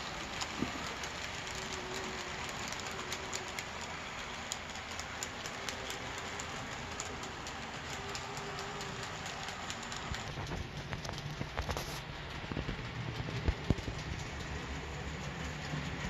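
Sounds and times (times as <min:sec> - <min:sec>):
model train rumbling: 0:00.0 - 0:16.0
wheels clicking over rail joints: 0:00.0 - 0:16.0.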